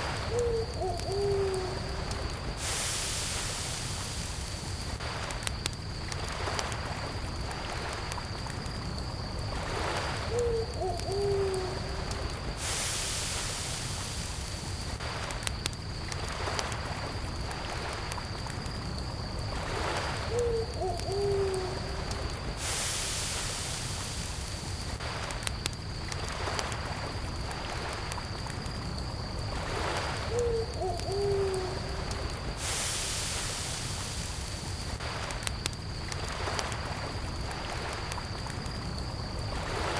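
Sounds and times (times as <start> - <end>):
campfire crackling: 0.0 - 39.9
distant crickets chirring: 0.0 - 39.9.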